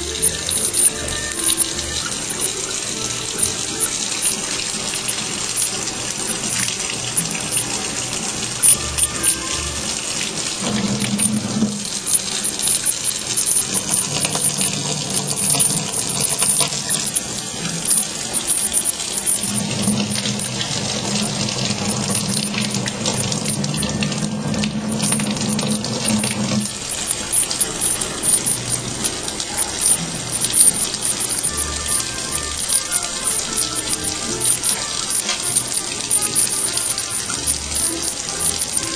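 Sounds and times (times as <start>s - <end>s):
tap water running into sink: 0.0s - 38.9s.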